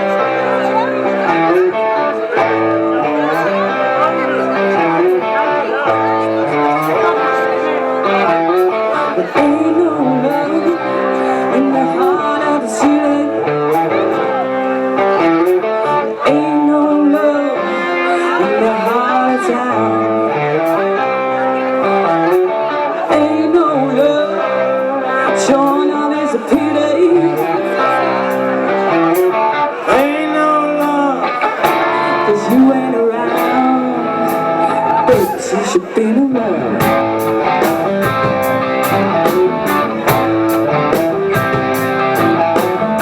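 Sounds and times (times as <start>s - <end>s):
blues-rock band playing: 0.0s - 43.0s
electric guitar lead: 0.0s - 43.0s.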